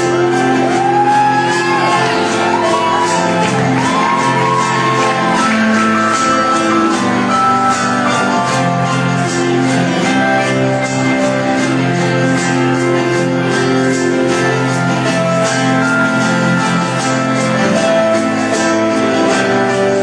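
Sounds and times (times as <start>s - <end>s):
live band instrumental music: 0.0s - 20.0s.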